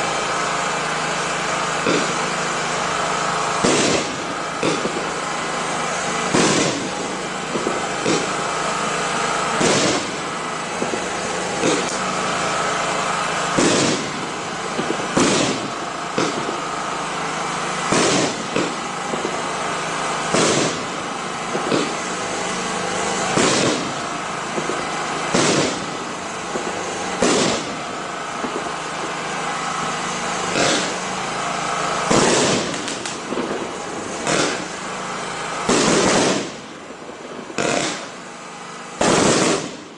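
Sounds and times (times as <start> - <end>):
fireworks shots: 0.0 - 39.9
steady hiss: 0.0 - 39.9.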